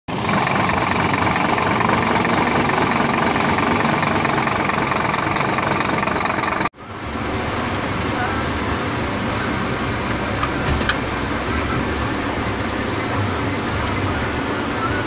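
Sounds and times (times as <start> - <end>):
diesel engine idling: 0.1 - 15.0.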